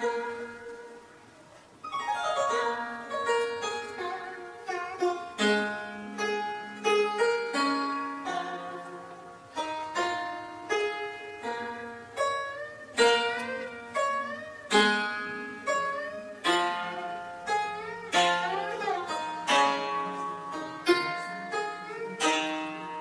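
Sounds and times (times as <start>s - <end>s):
plucked zither notes: 0.0s - 23.0s.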